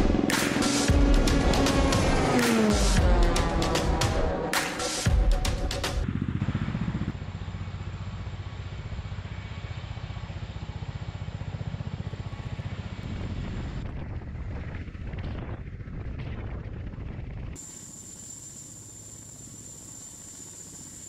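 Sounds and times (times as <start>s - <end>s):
helicopter rotors beating: 0.0s - 21.0s.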